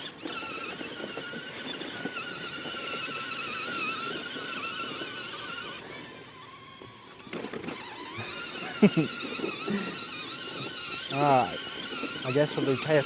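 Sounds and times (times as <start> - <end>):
drone propellers whining: 0.0 - 13.0.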